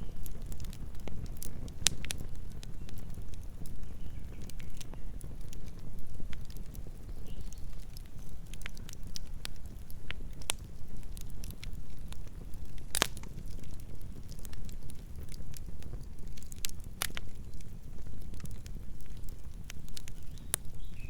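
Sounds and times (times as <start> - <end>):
burning logs popping and snapping: 0.0 - 21.0
fire rumbling: 0.0 - 21.0.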